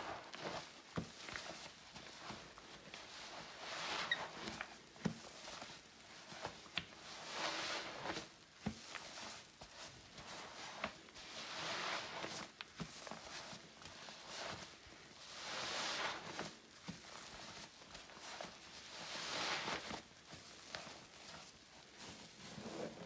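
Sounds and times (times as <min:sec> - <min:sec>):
wet sponge squelching: 0:00.1 - 0:23.0.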